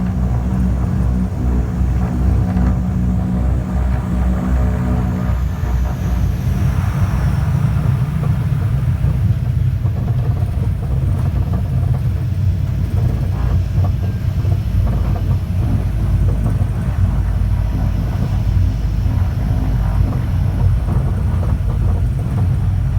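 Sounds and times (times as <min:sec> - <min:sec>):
propeller aircraft rumble: 0:00.0 - 0:22.9.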